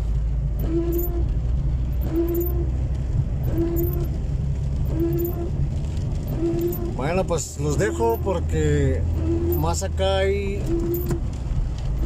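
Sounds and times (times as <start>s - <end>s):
engine and wet-road rumble: 0.0s - 12.0s
windshield wipers sweeping: 0.0s - 12.0s.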